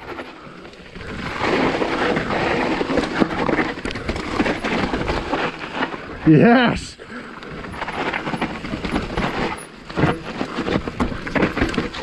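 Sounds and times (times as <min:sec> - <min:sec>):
bike knocking and rattling: 0:00.0 - 0:06.2, 0:07.1 - 0:12.0
bike tyres rushing on dirt: 0:00.0 - 0:12.0.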